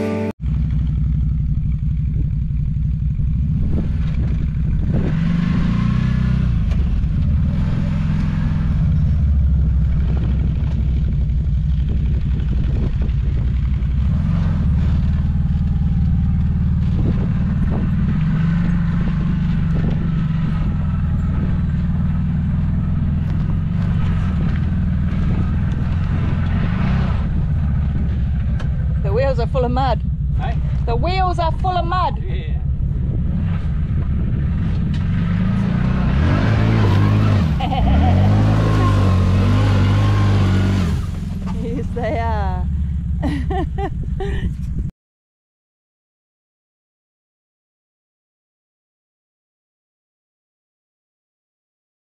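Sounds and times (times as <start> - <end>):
buggy engine running: 0.0 - 44.9.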